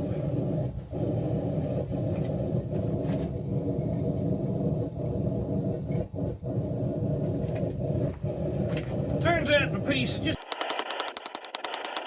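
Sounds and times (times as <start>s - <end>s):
forge roaring: 0.0s - 10.4s.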